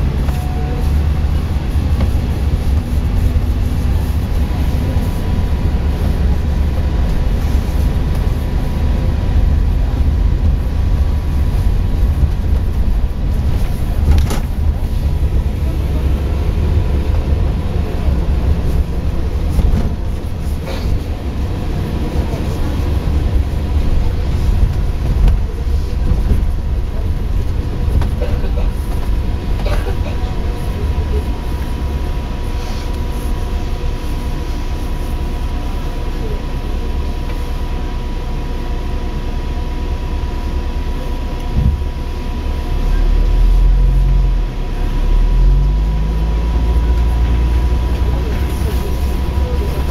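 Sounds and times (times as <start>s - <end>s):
bus engine and tyres rumbling: 0.0s - 49.9s.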